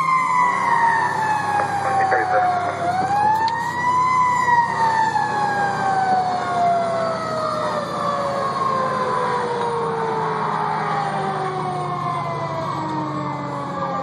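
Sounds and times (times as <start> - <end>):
siren wailing: 0.0 - 14.0
truck engine rumble: 0.0 - 14.0.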